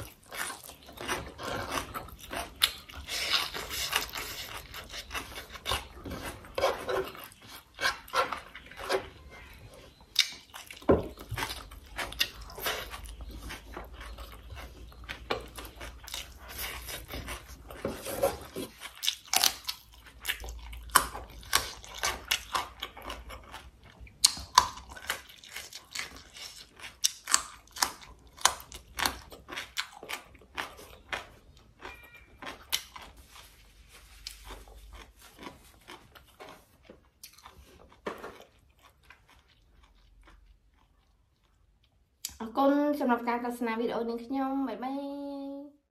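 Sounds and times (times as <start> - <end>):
chewing and crunching: 0.0 - 42.5.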